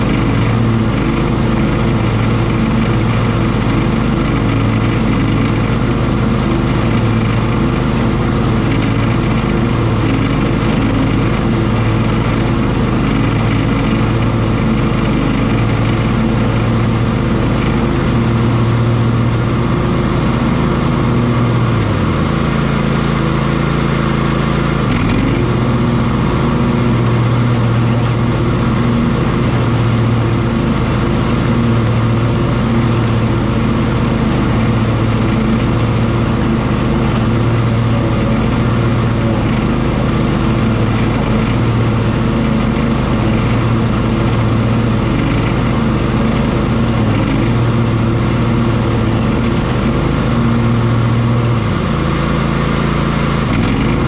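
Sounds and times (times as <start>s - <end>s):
riding lawn mower engine: 0.0s - 54.0s.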